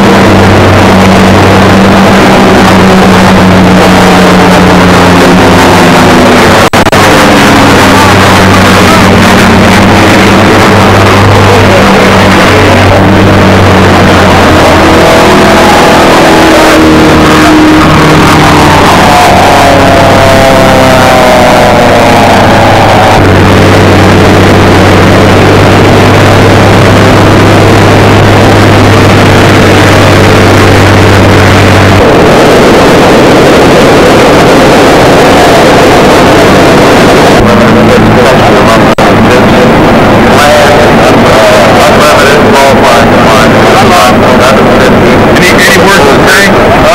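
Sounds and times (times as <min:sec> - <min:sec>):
propeller plane engines droning: 0:00.0 - 0:46.9.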